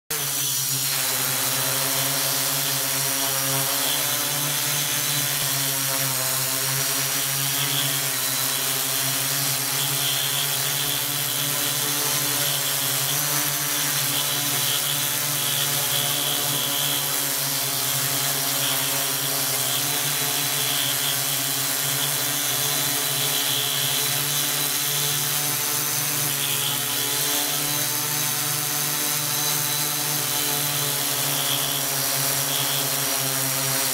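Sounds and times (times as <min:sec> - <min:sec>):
drone motors humming: 0:00.1 - 0:33.9.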